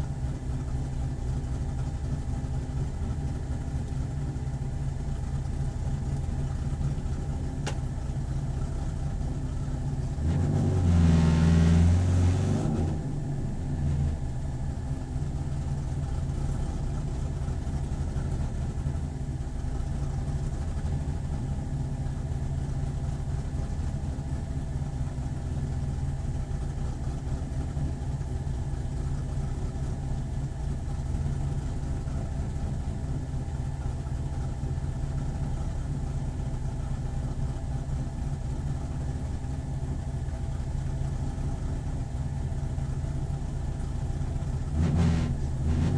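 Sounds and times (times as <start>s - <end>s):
racecar engine running: 0.0s - 45.9s.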